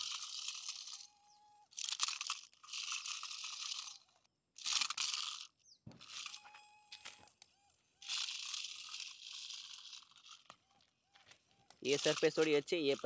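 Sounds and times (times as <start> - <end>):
toy snake grinding over stones: 0.0 - 7.2, 8.0 - 13.0.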